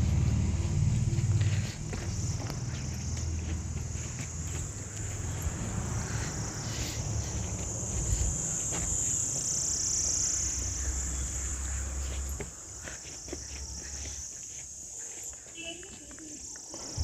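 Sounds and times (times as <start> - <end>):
insects droning chorus: 0.0 - 17.0.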